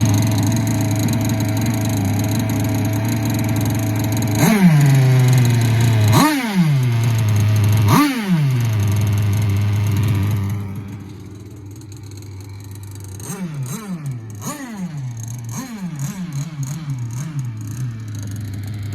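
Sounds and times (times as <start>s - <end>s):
small gas engine revving: 0.0s - 18.9s.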